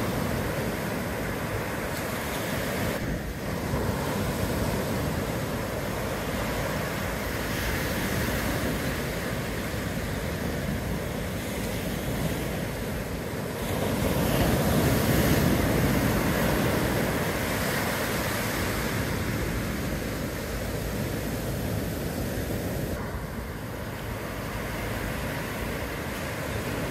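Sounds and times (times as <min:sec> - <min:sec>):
ocean surf washing in: 0:00.0 - 0:26.9.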